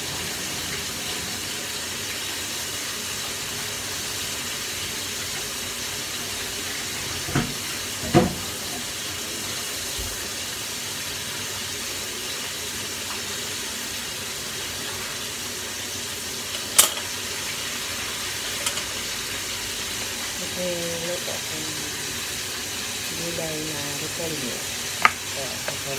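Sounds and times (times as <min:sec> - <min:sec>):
oil sizzling in a pan: 0:00.0 - 0:25.9.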